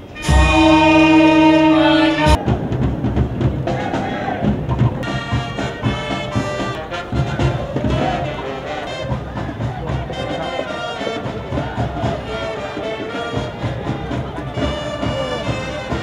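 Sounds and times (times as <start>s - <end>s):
trumpets: 0.0s - 16.0s
low drum beat: 0.2s - 16.0s.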